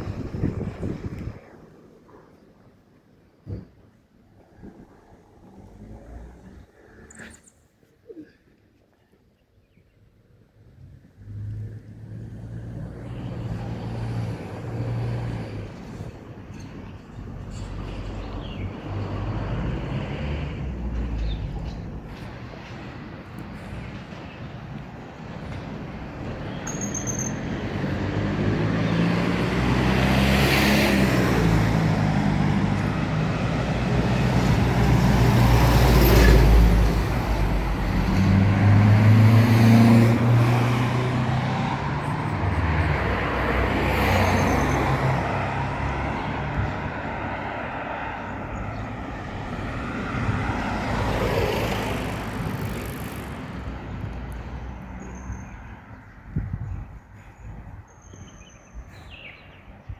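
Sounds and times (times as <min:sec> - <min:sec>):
vehicles passing on road: 0:00.0 - 0:07.9, 0:10.5 - 0:59.9.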